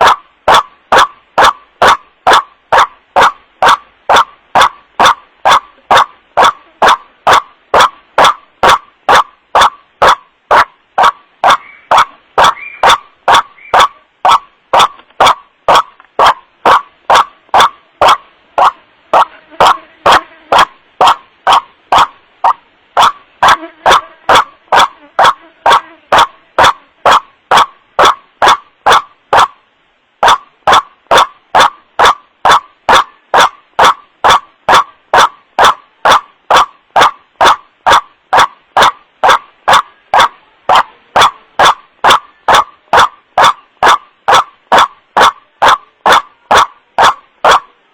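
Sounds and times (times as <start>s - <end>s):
waterhen calls: 0.0s - 29.6s, 30.2s - 47.8s.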